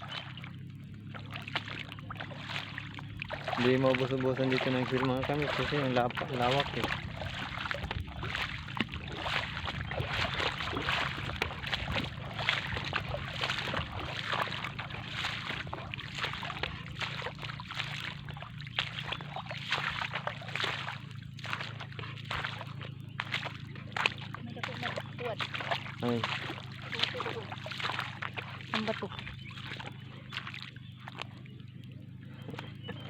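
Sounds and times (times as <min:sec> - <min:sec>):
sloshing in shallow water: 0:00.0 - 0:33.0
steady low hum: 0:00.0 - 0:33.0.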